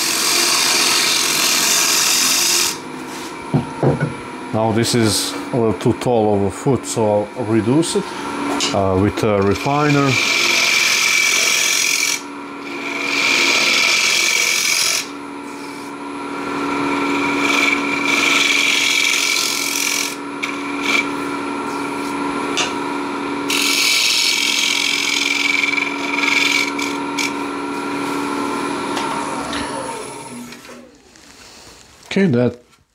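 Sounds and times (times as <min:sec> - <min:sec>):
tool scraping spinning wooden bowl: 0:00.0 - 0:31.3
wood lathe whining: 0:00.0 - 0:31.5.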